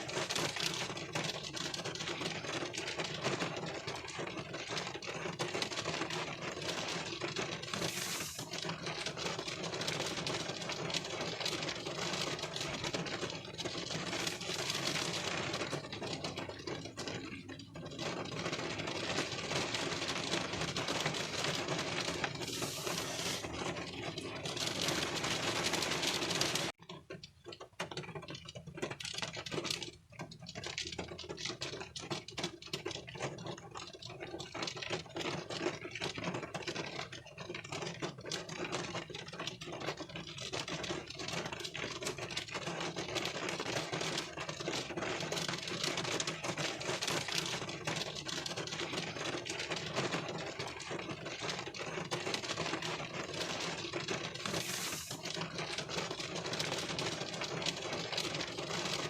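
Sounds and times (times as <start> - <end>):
rain pattering on windshield: 0.0 - 59.0.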